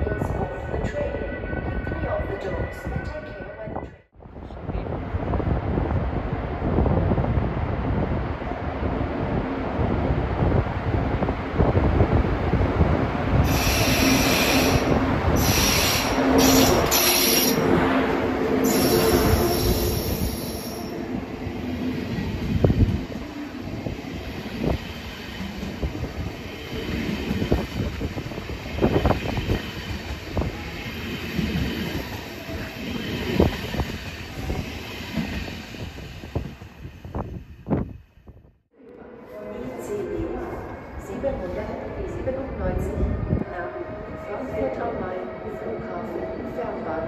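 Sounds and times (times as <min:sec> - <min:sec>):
heavy train rumble: 0:03.7 - 0:38.4, 0:39.0 - 0:47.0.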